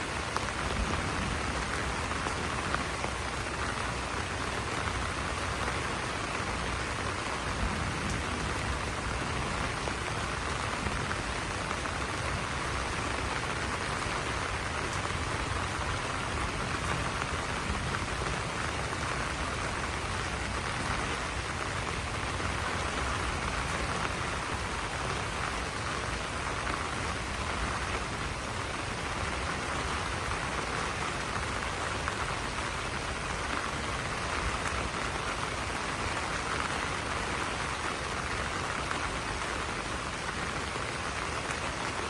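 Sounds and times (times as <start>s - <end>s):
rain falling on leaves: 0.0s - 42.0s.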